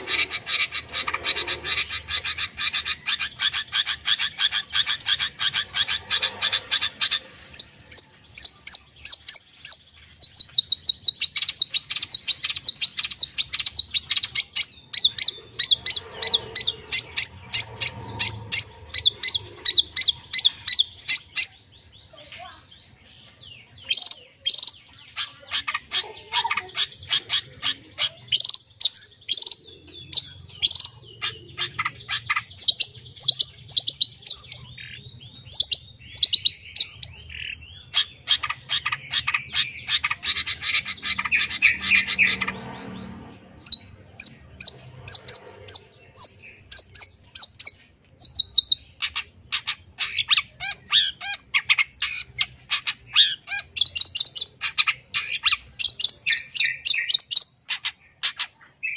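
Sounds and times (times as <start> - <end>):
shrike singing: 0.0 - 58.9.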